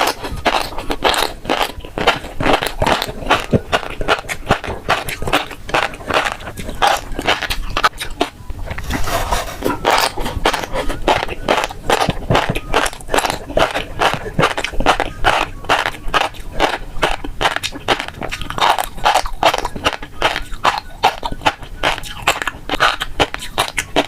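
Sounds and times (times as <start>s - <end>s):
chewing fish roe: 0.0s - 24.0s.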